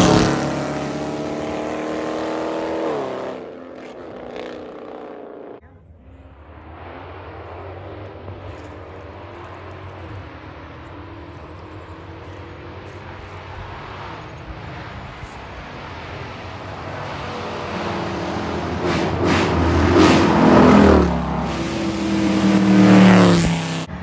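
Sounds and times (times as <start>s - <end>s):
loud exhaust at low revs: 0.0s - 4.9s, 5.6s - 24.0s.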